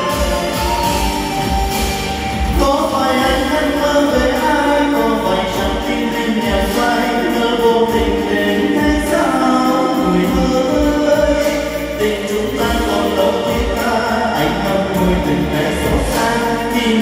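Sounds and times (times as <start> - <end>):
karaoke ballad over loudspeakers: 0.0 - 17.0
man singing into a microphone: 2.5 - 17.0.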